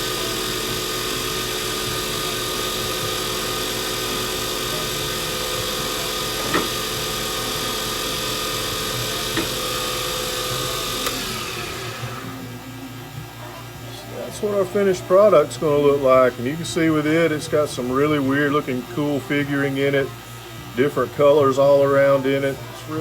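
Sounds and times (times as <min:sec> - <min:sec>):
wood lathe motor running: 0:00.0 - 0:23.0.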